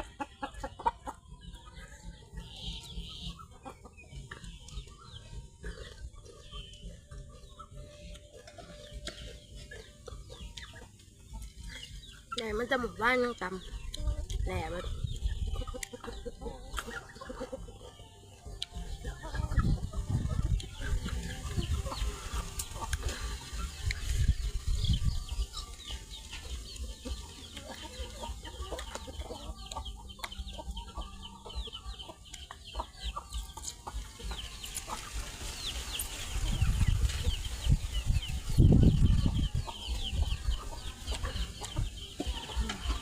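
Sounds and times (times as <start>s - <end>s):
chicken clucking: 0.0s - 43.0s.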